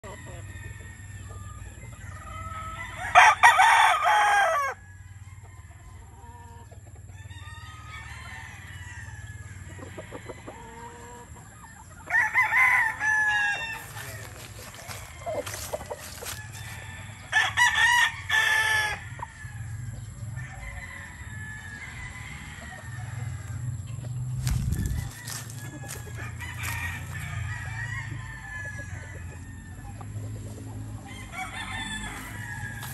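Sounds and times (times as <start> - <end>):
rooster crowing: 2.2 - 6.3, 7.1 - 11.2, 12.1 - 23.8, 24.4 - 30.1, 30.8 - 32.9.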